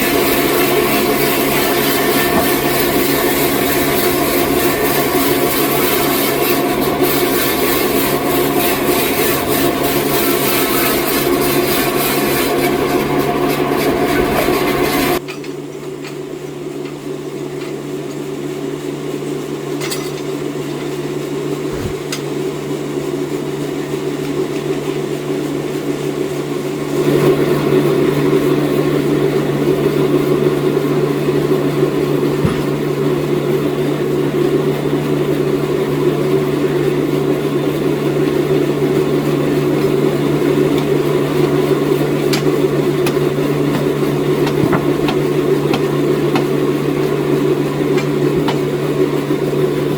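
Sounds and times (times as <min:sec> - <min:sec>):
sawmill machinery humming: 0:00.0 - 0:19.8, 0:20.4 - 0:49.9.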